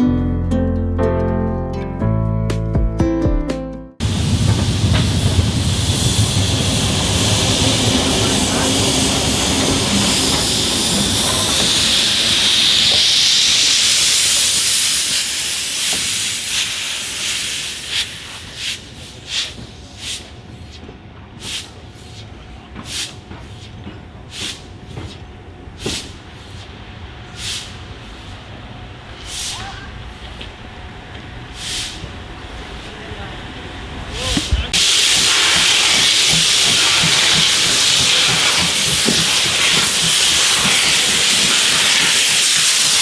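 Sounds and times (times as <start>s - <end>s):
sharp steam puffs: 4.0s - 43.0s
steam locomotive hissing: 4.0s - 43.0s.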